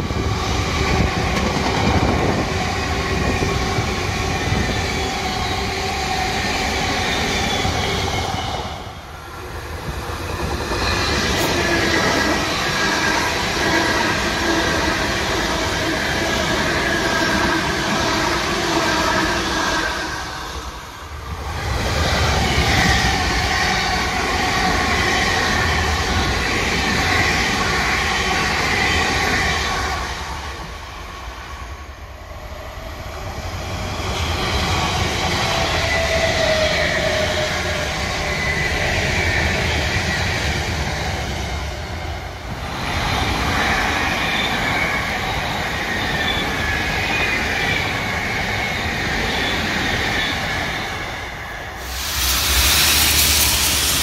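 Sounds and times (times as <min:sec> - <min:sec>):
train wheels rumbling on rails: 0:00.0 - 0:31.7, 0:32.4 - 0:54.0.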